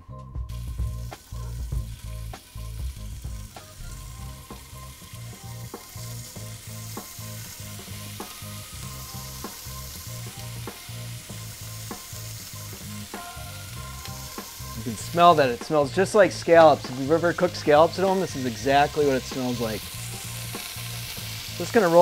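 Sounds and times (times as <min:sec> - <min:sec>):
fish sizzling in hot oil: 0:00.5 - 0:22.0.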